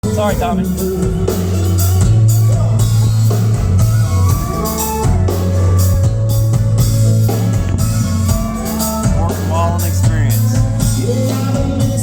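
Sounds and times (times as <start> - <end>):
bass line: 0.0 - 12.0
drum kit: 0.0 - 12.0
guitar: 0.0 - 12.0.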